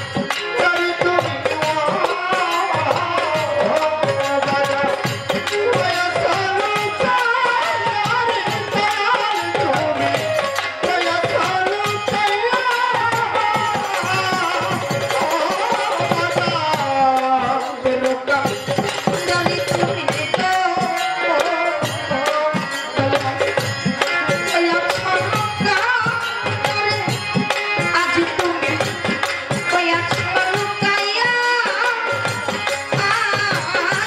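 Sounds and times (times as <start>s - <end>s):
hand drum rhythm: 0.0s - 34.0s.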